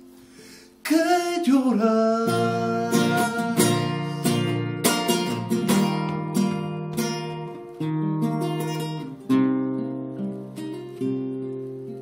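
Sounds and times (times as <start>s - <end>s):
classical guitar strummed and plucked: 0.9s - 12.0s.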